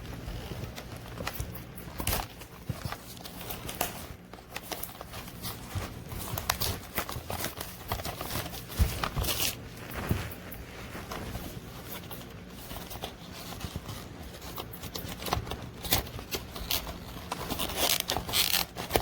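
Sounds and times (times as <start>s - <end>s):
rustling crinkle: 0.0s - 19.0s.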